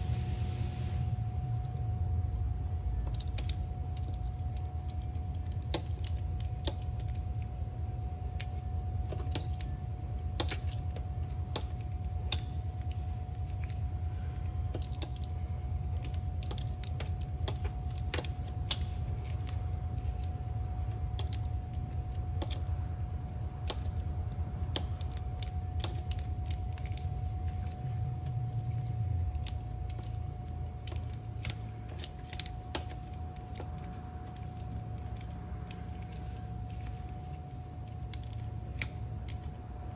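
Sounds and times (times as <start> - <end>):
steady low hum: 0.0 - 39.9
tools and metal parts clicking: 3.0 - 39.6.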